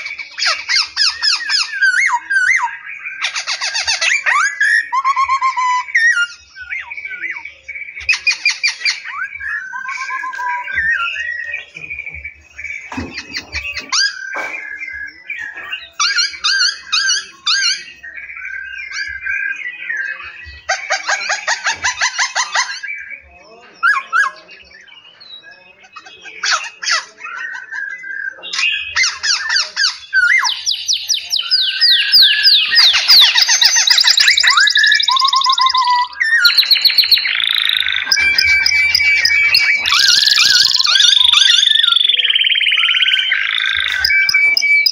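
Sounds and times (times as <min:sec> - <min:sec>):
songbirds singing and calling: 0:00.0 - 0:44.9.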